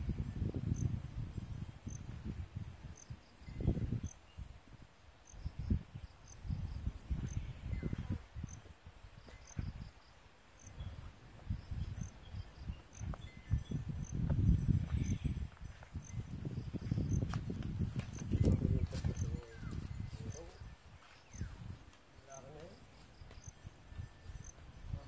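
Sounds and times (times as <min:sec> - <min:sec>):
insect chirping: 0:00.0 - 0:25.0
wind rumbling on microphone: 0:00.0 - 0:25.0.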